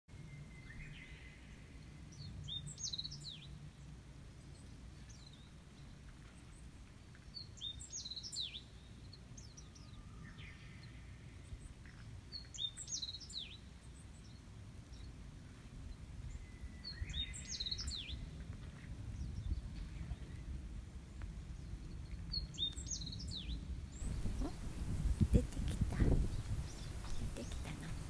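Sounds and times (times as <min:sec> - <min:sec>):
songbird singing: 0:00.1 - 0:28.0.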